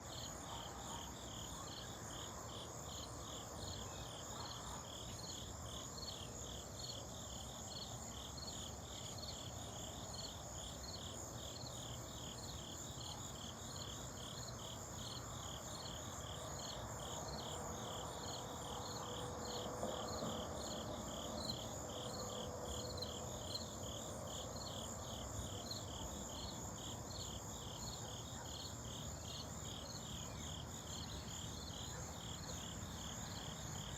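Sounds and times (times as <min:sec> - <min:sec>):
crickets chirping in chorus: 0:00.0 - 0:33.9.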